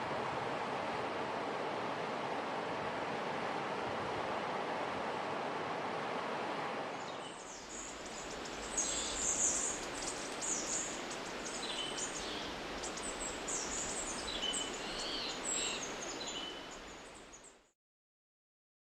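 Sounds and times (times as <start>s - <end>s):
river water rushing: 0.0s - 17.4s.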